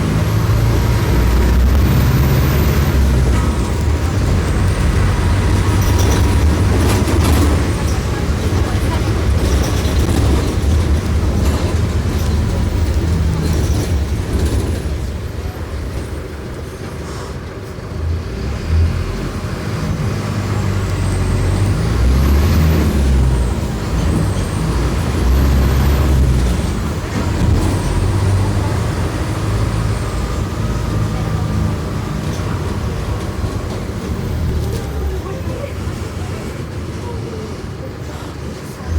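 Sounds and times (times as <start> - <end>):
bus diesel engine under load: 0.0 - 38.9.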